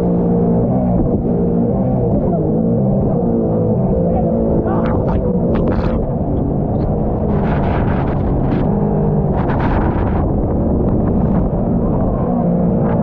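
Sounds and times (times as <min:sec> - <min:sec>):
jet ski engine running: 0:00.0 - 0:13.0
wind buffeting microphone: 0:00.0 - 0:13.0.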